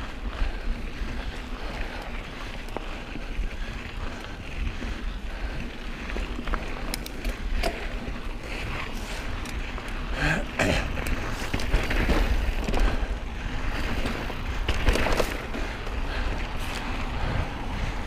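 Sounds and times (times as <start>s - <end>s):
bike clicks: 0.0s - 18.0s
bike tyres rolling over dirt: 0.0s - 18.0s.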